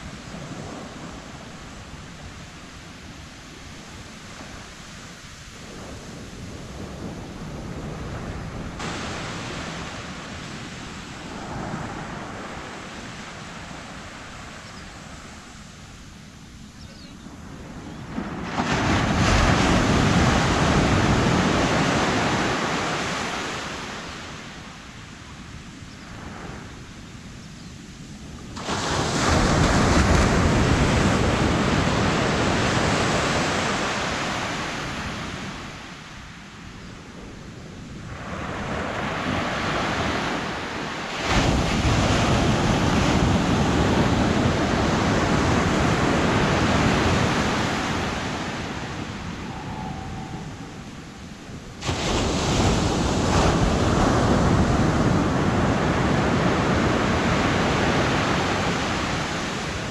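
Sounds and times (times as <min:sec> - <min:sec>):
surf waves breaking on sand: 0:00.0 - 0:59.9.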